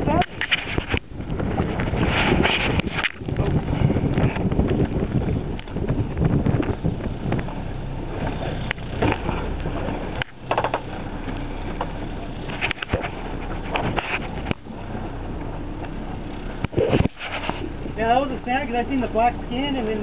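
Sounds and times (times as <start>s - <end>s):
boat motor rumbling: 0.0s - 20.0s
wind buffeting microphone: 0.0s - 20.0s.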